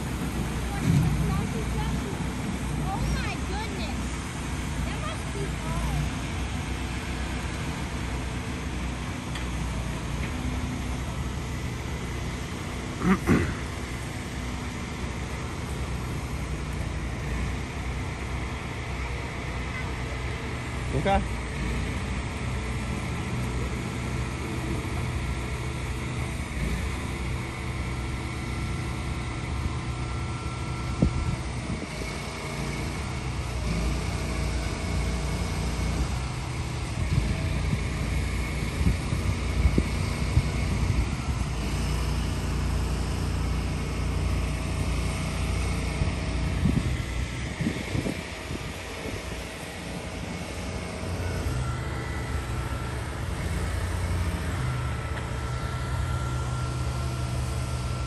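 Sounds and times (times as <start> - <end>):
diesel truck engines droning: 0.0 - 58.0.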